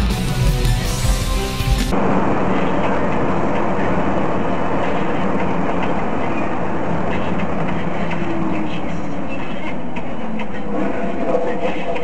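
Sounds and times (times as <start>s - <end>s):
car driving at highway speed: 1.9s - 12.0s.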